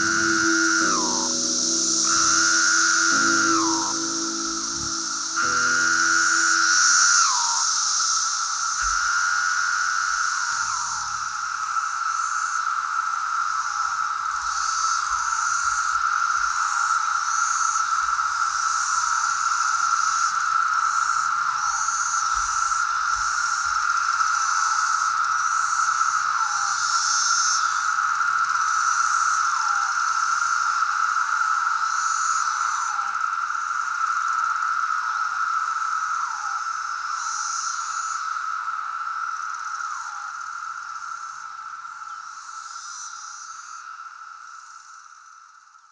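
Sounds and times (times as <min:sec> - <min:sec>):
cicadas buzzing: 0:00.0 - 0:45.8.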